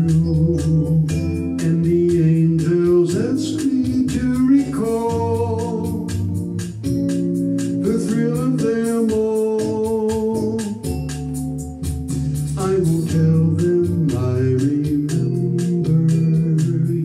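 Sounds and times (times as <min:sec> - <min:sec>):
electronic organ chords and melody: 0:00.0 - 0:17.0.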